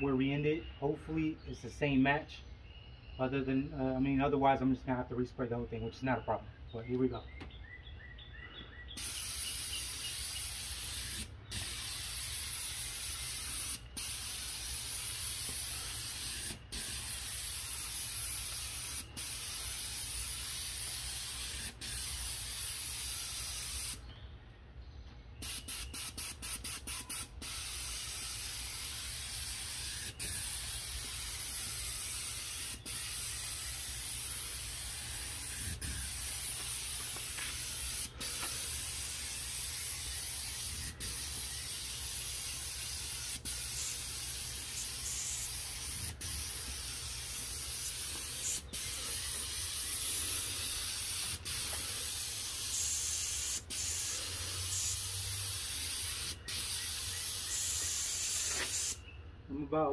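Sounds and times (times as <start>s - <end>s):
paint sprayer hissing: 9.0s - 24.0s, 25.4s - 59.0s.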